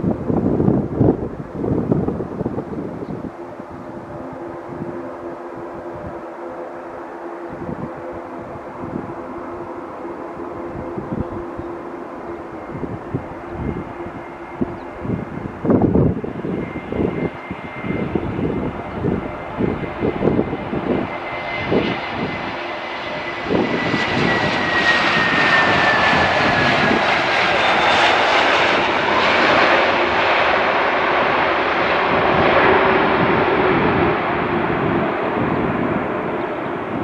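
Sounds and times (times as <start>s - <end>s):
airliner engines passing: 0.0s - 37.0s.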